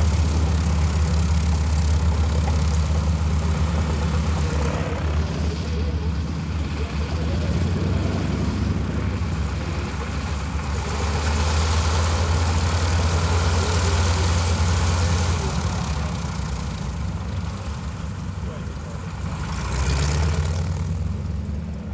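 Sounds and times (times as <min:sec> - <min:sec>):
radial aircraft engine idling: 0:00.0 - 0:21.9.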